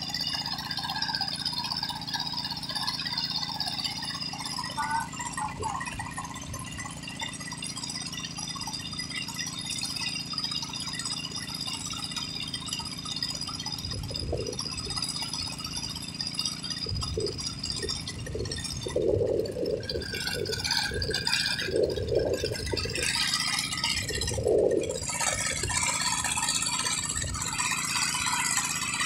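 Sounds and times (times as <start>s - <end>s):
drilling rig running: 0.0s - 29.0s.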